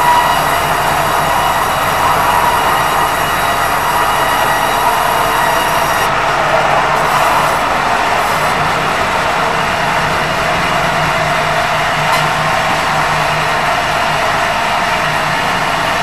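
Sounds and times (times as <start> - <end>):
vehicle running: 0.0 - 16.0.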